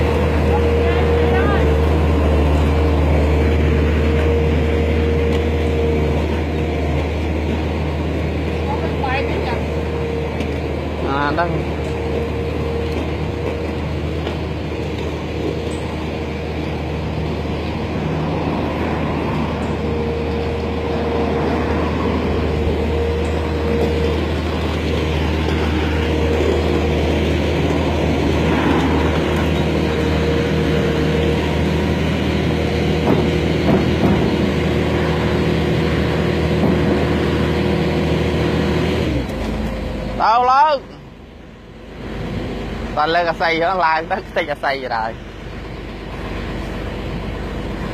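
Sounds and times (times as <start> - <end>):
road roller diesel engine: 0.0 - 47.9.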